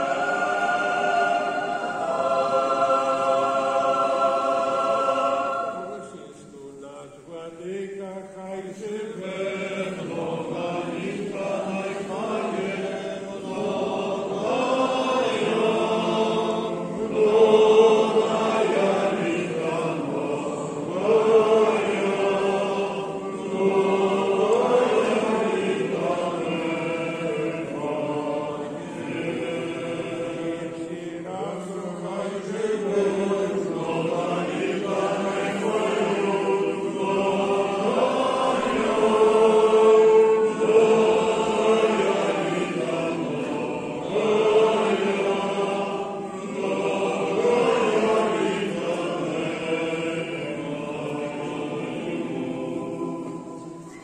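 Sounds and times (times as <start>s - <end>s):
unaccompanied choral chant: 0.0s - 54.0s.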